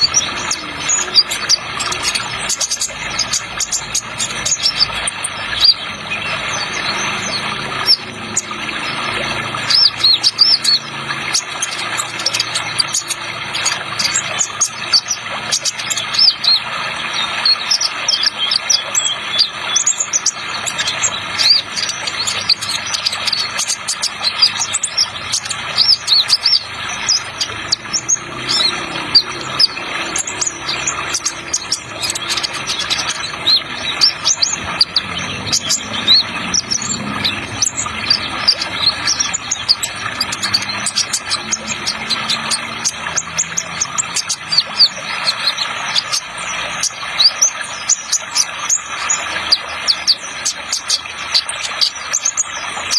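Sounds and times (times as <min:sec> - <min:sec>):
running water: 0:00.0 - 0:52.9.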